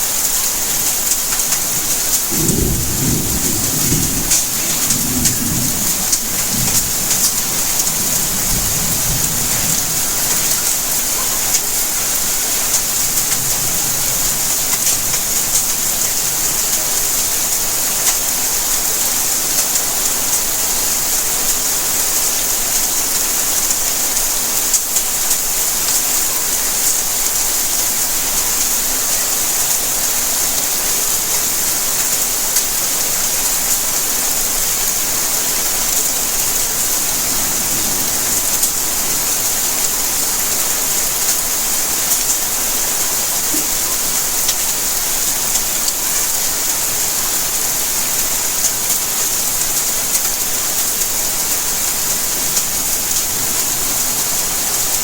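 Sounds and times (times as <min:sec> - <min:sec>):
rain hissing: 0:00.0 - 0:55.0
raindrops striking surfaces: 0:00.0 - 0:55.0.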